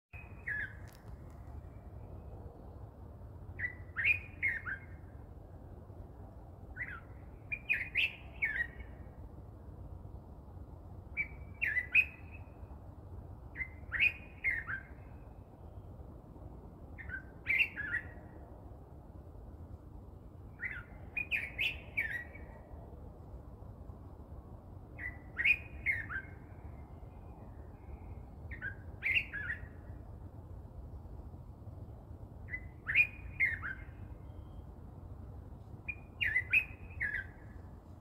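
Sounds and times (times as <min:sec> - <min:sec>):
songbird singing: 0:00.1 - 0:38.0.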